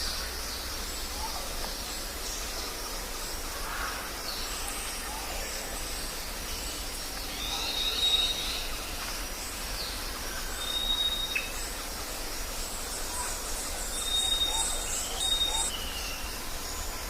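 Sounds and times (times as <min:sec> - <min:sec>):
birds calling: 0:00.0 - 0:16.9
insects hissing: 0:00.0 - 0:17.0.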